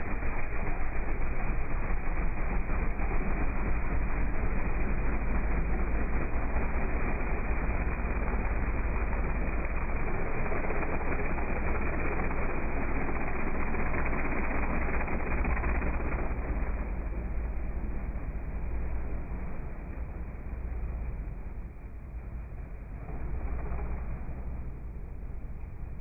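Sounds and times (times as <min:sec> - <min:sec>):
pickup truck engine running hard: 0:00.0 - 0:26.0.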